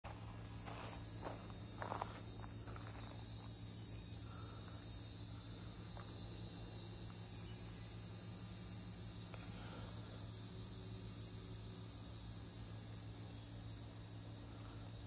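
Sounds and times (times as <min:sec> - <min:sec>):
cicadas singing: 0:00.1 - 0:15.0.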